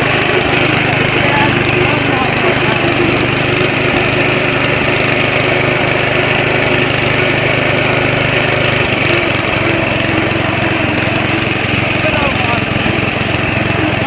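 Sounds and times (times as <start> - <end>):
riding lawn mower engine running: 0.0 - 14.0.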